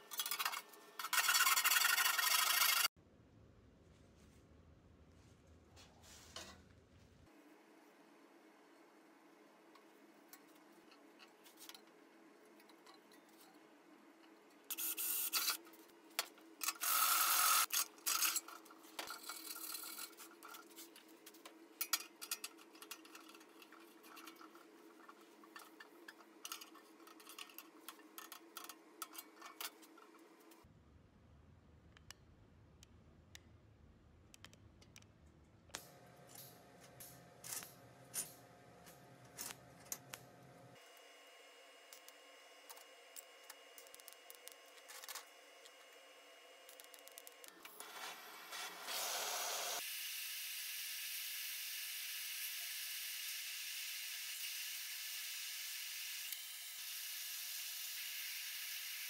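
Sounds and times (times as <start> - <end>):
low workshop hum: 0.0 - 59.0.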